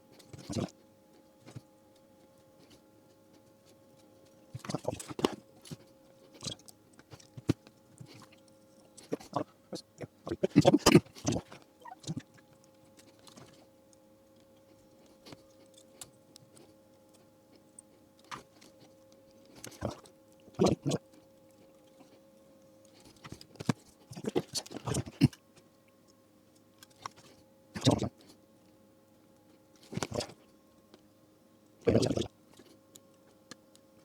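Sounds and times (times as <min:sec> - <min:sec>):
faint hum: 0:00.0 - 0:34.0.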